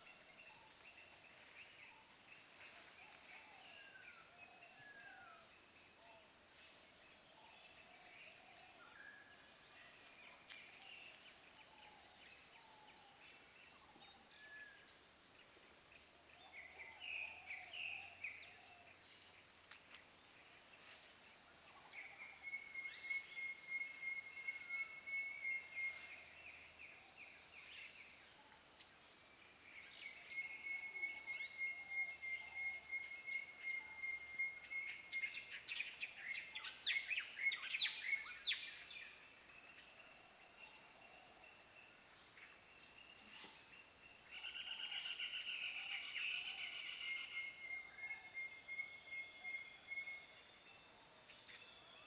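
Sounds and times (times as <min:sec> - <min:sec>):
insects chorus: 0:00.0 - 0:52.0.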